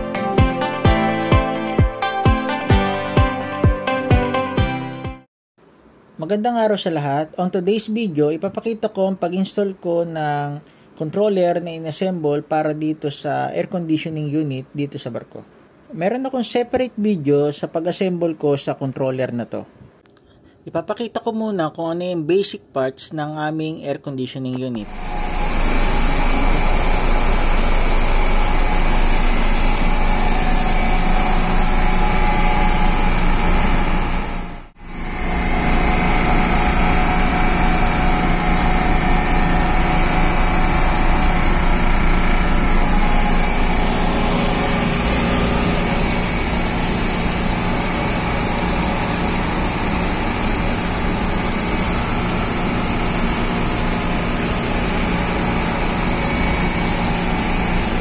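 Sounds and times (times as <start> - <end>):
air conditioning unit humming: 5.6 - 58.0.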